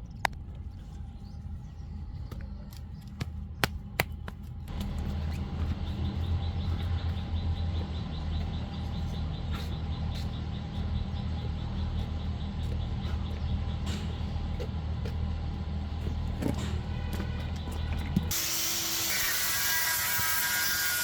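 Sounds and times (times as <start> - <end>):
engine running: 0.4 - 21.0.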